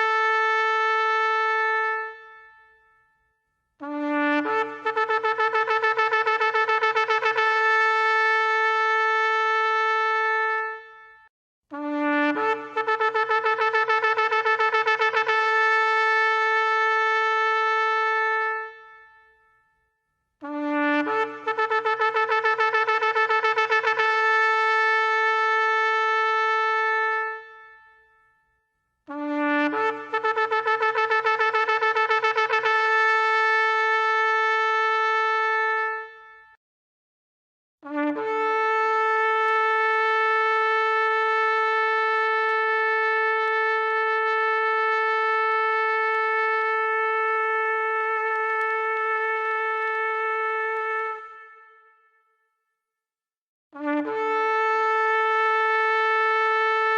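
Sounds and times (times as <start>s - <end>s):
shofar long blasts: 3.8s - 19.5s, 20.4s - 28.2s, 29.1s - 36.5s, 37.8s - 52.1s, 53.8s - 56.9s.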